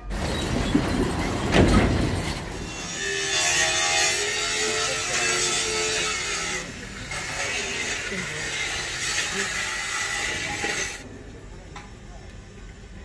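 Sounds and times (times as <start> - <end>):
rasping scrape: 0.2 - 11.0.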